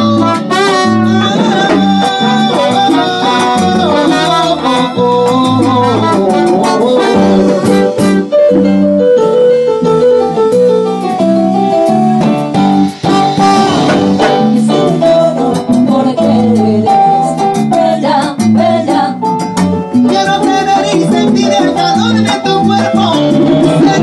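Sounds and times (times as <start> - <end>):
bass guitar: 0.0 - 24.0
drum kit: 0.0 - 24.0
keyboard: 0.0 - 24.0.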